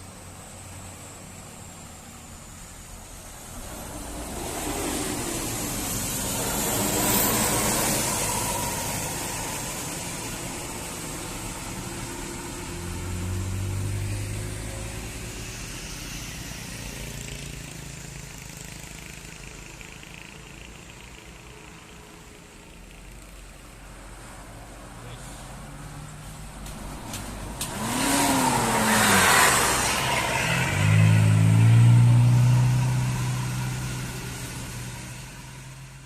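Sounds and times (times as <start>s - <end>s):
vehicles passing: 0.0s - 36.0s.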